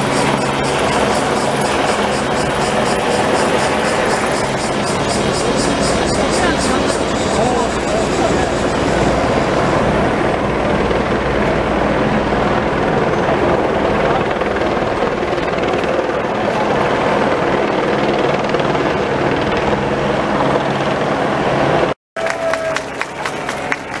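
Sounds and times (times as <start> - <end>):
helicopter droning overhead: 0.0 - 24.0.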